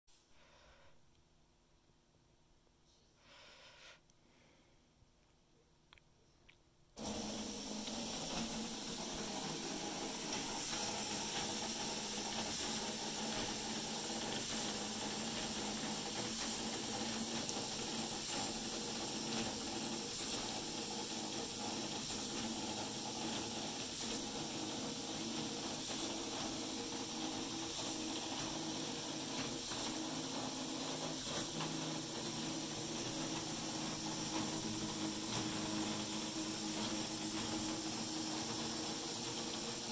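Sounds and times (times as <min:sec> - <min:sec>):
seeding machine hiss and hum: 0:07.0 - 0:39.9.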